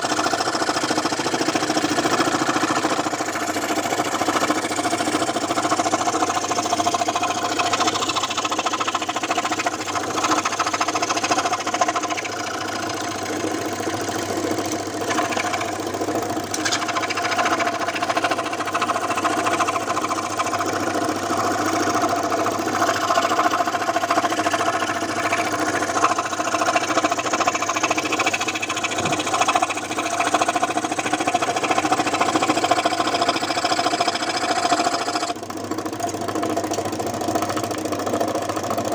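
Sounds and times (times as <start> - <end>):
electric scroll saw running: 0.0 - 38.9.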